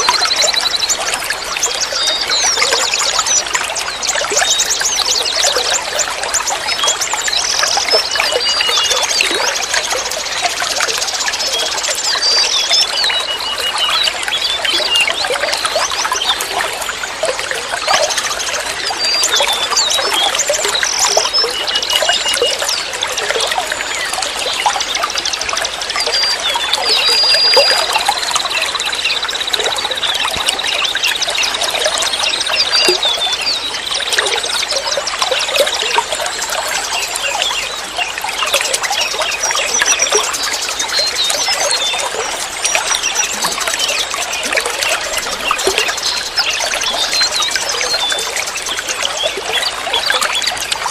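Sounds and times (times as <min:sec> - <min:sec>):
small birds chirping: 0:00.0 - 0:50.9
water trickling and splashing: 0:00.0 - 0:50.9.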